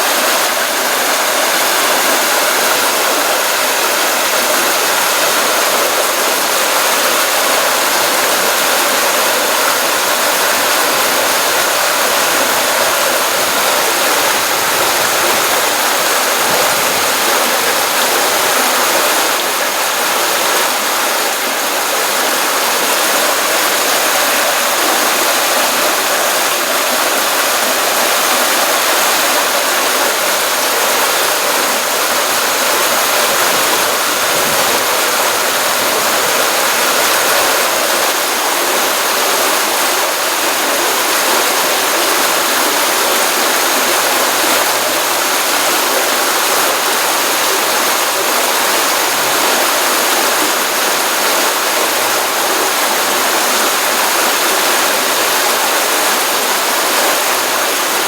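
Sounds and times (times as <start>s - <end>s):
stream water rushing into pond: 0.0s - 58.0s.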